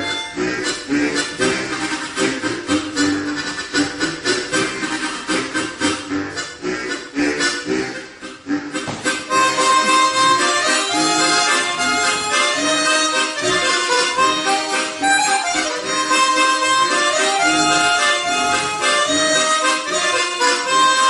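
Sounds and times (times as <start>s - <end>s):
harmonica quartet playing: 0.0s - 21.0s.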